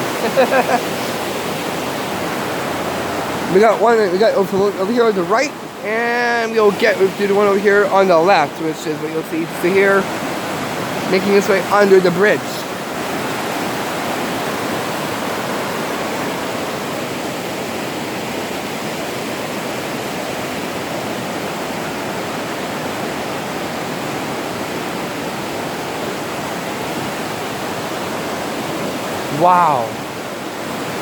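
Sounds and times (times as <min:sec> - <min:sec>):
waterfall and rushing creek: 0:00.0 - 0:31.0.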